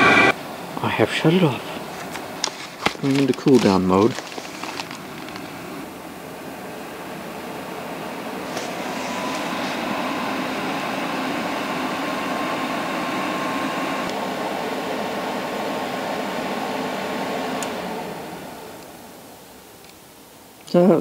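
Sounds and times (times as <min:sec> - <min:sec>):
blower fan rushing air: 0:00.0 - 0:20.6.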